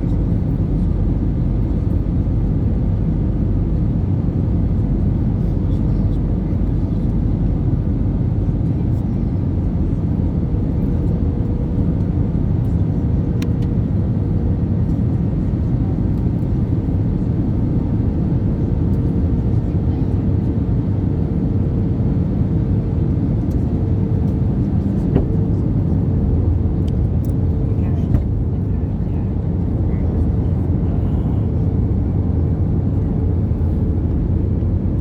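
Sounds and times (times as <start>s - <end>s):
aircraft cabin engine and airflow noise: 0.0s - 35.0s.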